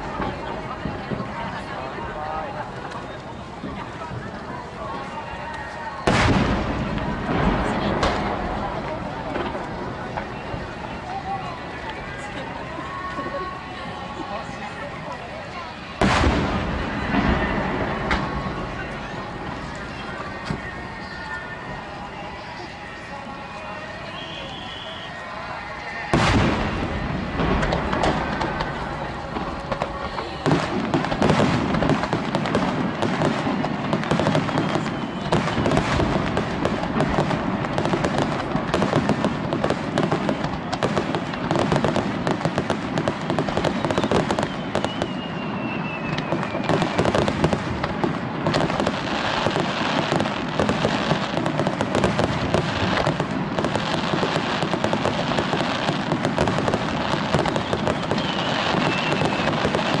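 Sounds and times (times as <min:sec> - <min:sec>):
fireworks bursts and crackling: 0:00.0 - 1:00.0
fireworks whistling: 0:00.0 - 1:00.0.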